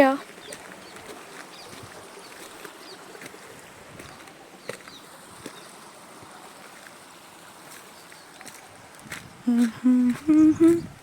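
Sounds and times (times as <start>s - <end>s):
running stream water: 0.0s - 11.0s
footsteps on rocky trail: 0.2s - 5.8s, 7.6s - 11.0s.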